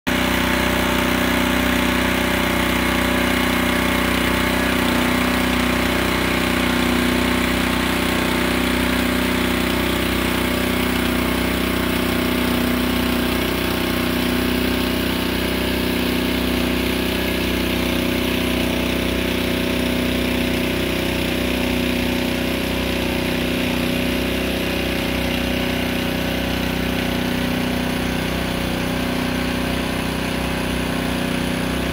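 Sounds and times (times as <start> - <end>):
machine engine droning: 0.1 - 31.9.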